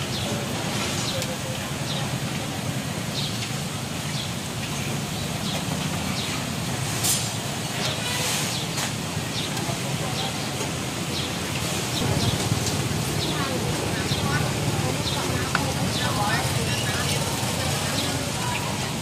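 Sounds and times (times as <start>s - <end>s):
distant voices: 0.0s - 19.0s
traffic rumble: 0.0s - 19.0s.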